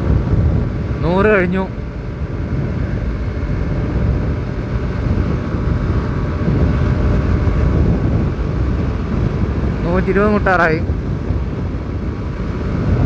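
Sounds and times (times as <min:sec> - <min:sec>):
scooter engine at speed: 0:00.0 - 0:13.0
wind rushing over microphone: 0:00.0 - 0:13.0.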